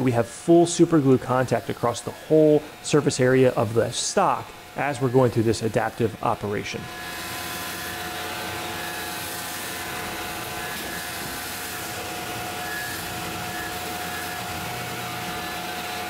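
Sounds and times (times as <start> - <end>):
milling machine cutting: 0.0 - 16.0
shop vacuum running: 0.0 - 16.0.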